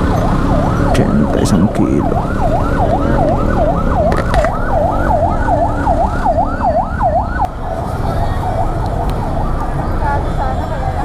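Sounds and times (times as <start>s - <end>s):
low rumble of street traffic: 0.0s - 11.0s
yelping emergency siren: 0.0s - 11.0s.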